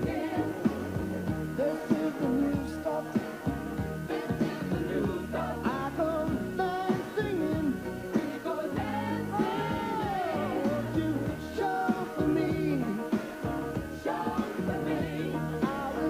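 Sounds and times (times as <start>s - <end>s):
rock song with vocals: 0.0s - 16.0s.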